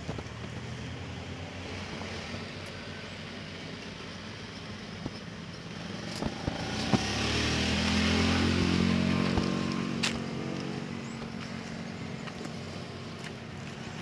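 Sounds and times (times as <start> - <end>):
small engine passing by: 0.0 - 14.0.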